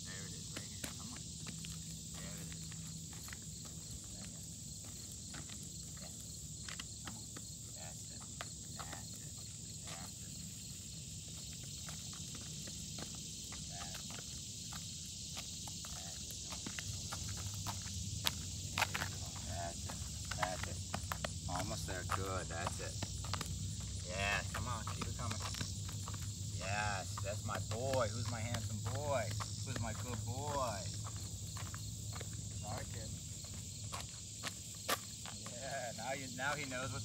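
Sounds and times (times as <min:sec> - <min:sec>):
insects chirring: 0:00.0 - 0:37.0
footsteps on pavement: 0:00.1 - 0:37.0.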